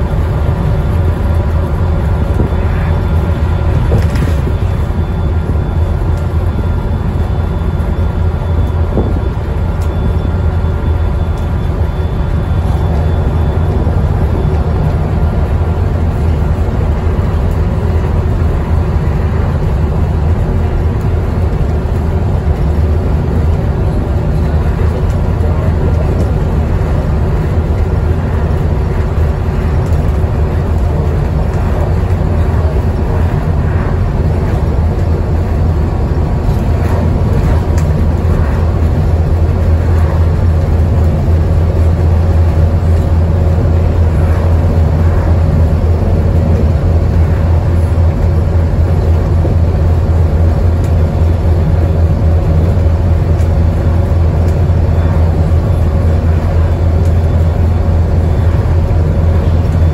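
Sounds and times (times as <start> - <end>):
bus diesel engine drone: 0.0 - 59.9
road and tyre rush: 0.0 - 59.9.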